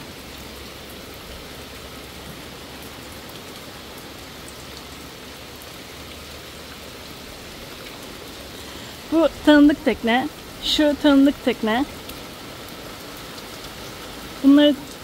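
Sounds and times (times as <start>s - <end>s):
heavy rain on sea and boat: 0.0s - 15.0s.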